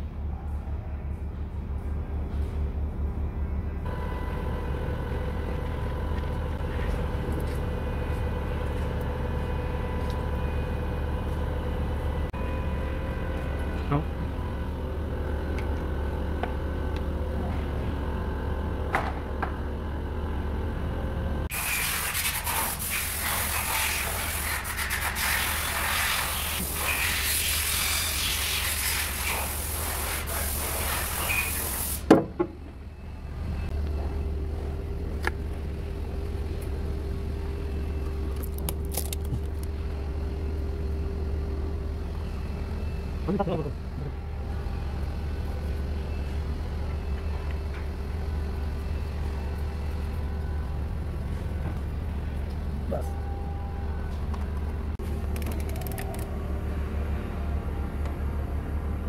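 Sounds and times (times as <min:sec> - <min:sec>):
low machine hum: 0:00.0 - 0:21.5, 0:32.3 - 0:59.0.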